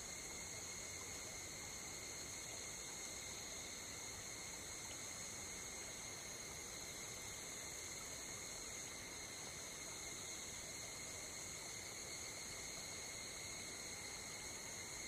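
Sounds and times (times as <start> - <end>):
insects trilling: 0.0 - 15.0
low hiss: 0.0 - 15.0.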